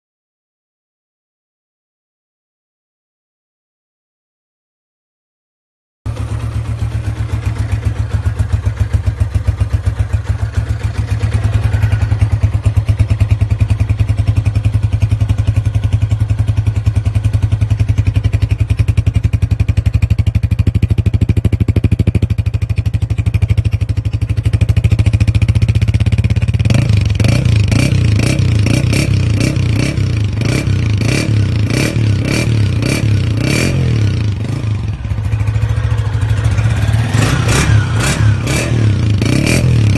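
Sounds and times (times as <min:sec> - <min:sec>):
motorcycle engine running: 0:06.1 - 0:39.9.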